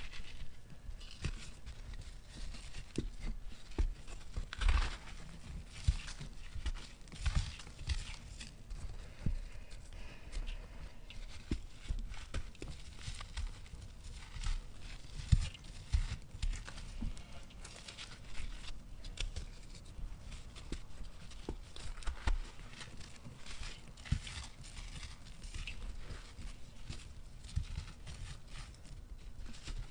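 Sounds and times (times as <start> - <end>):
hands crushing gritty clumps: 0.0 - 29.9.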